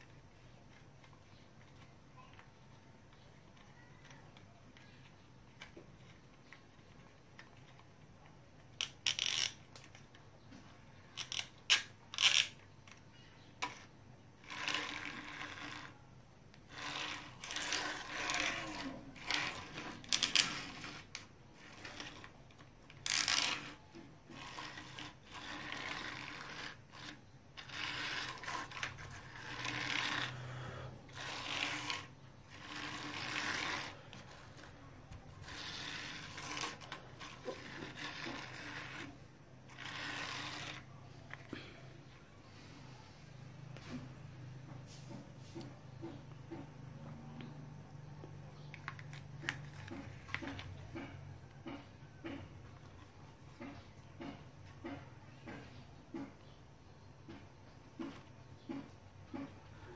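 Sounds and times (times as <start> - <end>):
toy vehicles rolling on tiled floor: 0.0 - 10.2, 10.9 - 42.6, 45.4 - 56.5.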